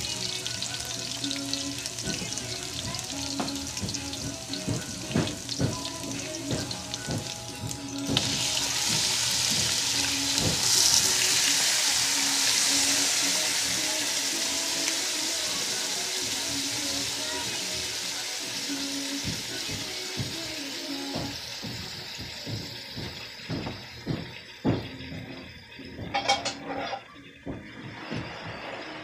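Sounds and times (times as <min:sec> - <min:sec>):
food sizzling in a wok: 0:00.0 - 0:29.0.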